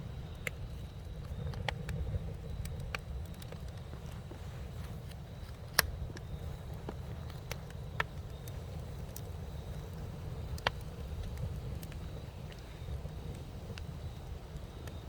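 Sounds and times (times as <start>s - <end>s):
campfire rumble: 0.0s - 15.0s
fire popping and ticking: 0.0s - 15.0s.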